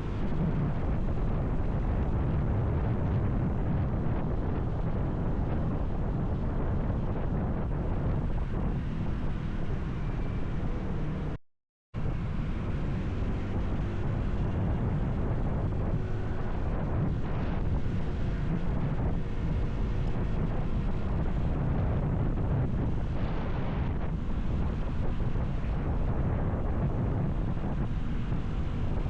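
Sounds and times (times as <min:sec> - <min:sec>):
wind buffeting microphone: 0:00.0 - 0:11.3, 0:12.0 - 0:29.0.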